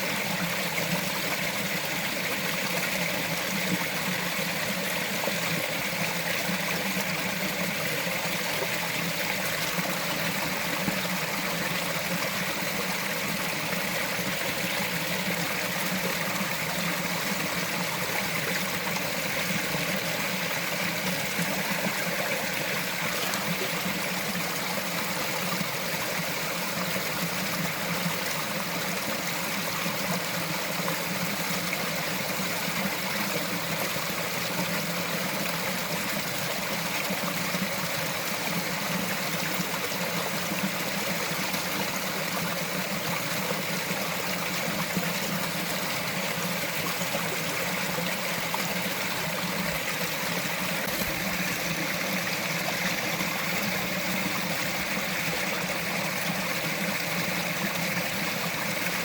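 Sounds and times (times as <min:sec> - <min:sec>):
stream flowing and trickling: 0:00.0 - 0:59.0.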